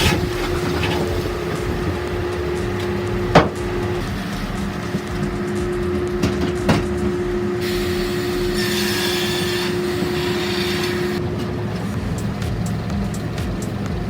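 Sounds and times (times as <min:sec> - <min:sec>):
heavy machinery whining: 0:00.0 - 0:14.0.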